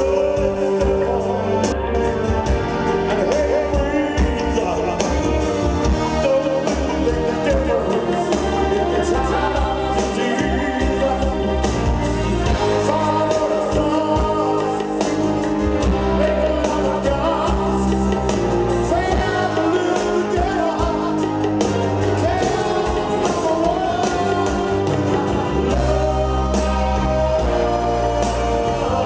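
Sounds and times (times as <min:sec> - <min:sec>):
low bass notes: 0:00.0 - 0:29.0
man singing lead: 0:00.0 - 0:29.0
rock band playing: 0:00.0 - 0:29.0
drum beat: 0:02.2 - 0:29.0.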